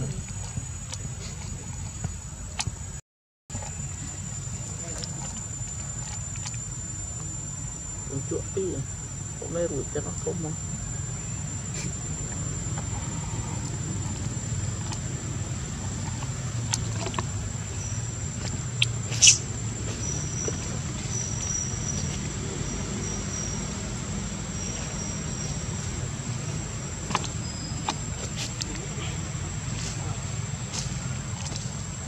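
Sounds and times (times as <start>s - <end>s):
high-pitched whine: 0.0s - 32.0s.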